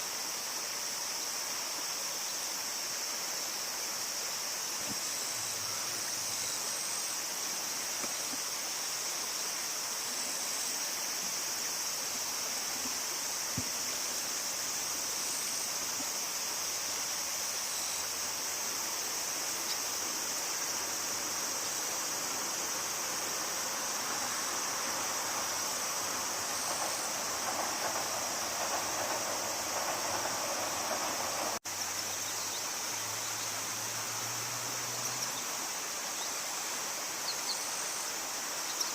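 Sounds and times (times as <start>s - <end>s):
high-pitched insect drone: 0.0s - 38.9s
river water flowing: 0.0s - 38.9s.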